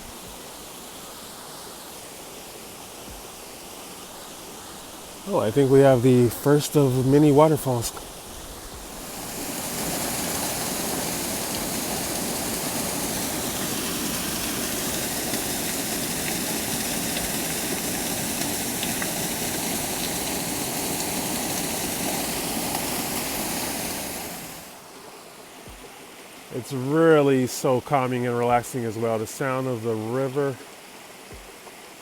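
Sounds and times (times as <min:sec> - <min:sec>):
waterfall splashing: 0:00.0 - 0:32.0.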